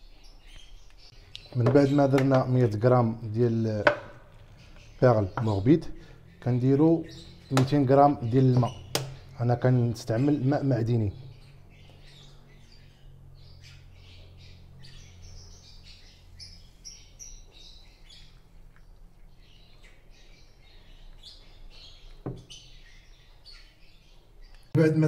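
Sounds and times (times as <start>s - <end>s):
pet birds chirping: 0.0s - 25.0s.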